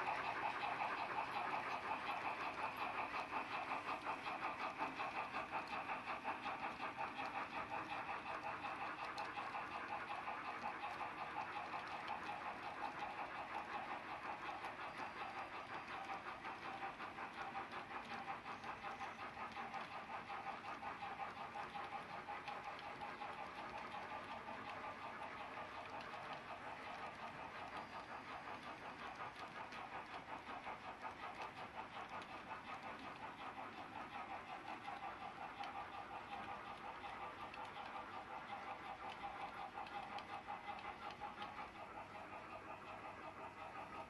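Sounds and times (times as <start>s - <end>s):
model train wheels clattering: 0.0s - 44.0s.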